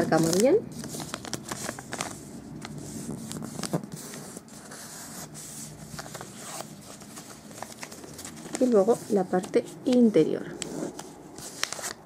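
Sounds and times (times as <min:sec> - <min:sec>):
glossy paper rustling and crackling: 0:00.0 - 0:12.0.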